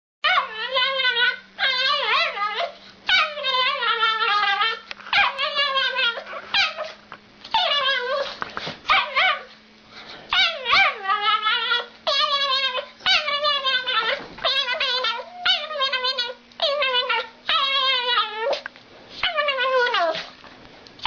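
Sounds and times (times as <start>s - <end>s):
dog warbling howls: 0.2s - 8.3s, 8.9s - 9.5s, 10.3s - 18.6s, 19.2s - 20.2s.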